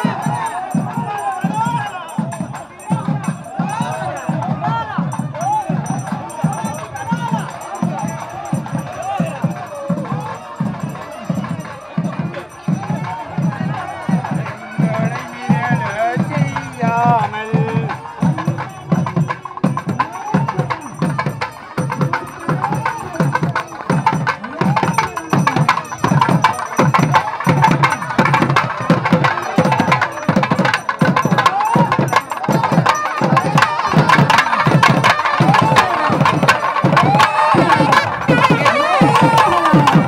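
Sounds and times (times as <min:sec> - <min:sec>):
fast drumming: 0:00.0 - 0:40.0.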